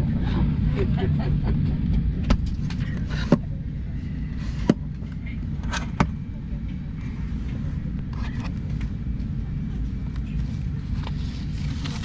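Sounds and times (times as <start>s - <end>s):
ventilation rumble: 0.0s - 12.0s.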